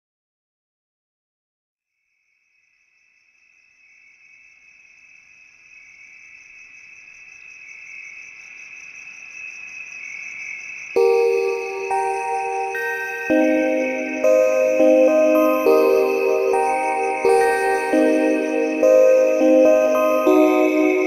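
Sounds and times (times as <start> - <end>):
insects trilling: 2.4 - 21.0.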